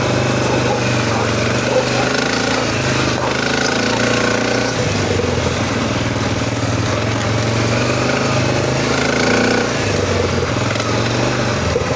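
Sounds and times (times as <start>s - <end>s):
engine knocking and grinding: 0.0s - 11.9s
engine running with rapid pulse: 0.0s - 11.9s.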